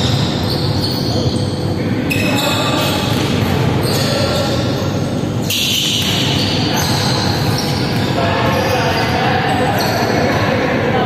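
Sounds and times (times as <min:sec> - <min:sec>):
loud sports hall din: 0:00.0 - 0:11.0.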